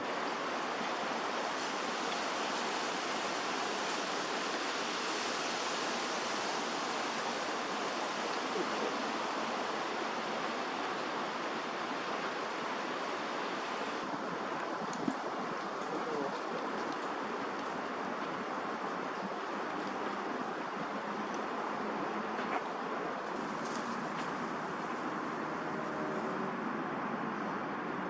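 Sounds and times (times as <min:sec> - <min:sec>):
rushing outdoor background noise: 0:00.0 - 0:28.0.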